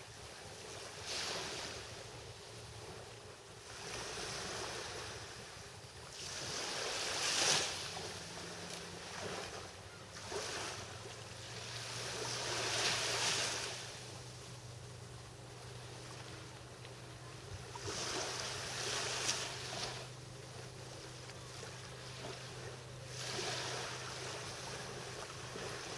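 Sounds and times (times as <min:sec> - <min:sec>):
waves washing onto sandy shore: 0:00.0 - 0:25.9.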